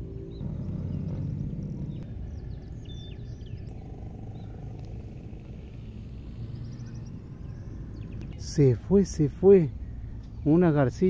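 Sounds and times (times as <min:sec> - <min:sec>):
faint bird chirps: 0:00.0 - 0:11.0
steady low rumble: 0:00.0 - 0:11.0.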